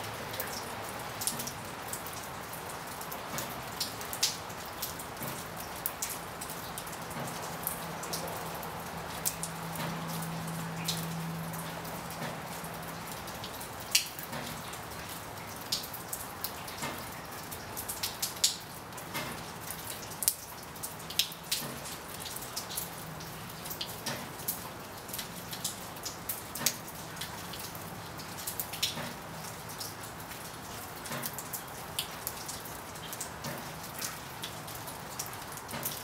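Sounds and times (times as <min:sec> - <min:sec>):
steady rain hiss: 0:00.0 - 0:36.0.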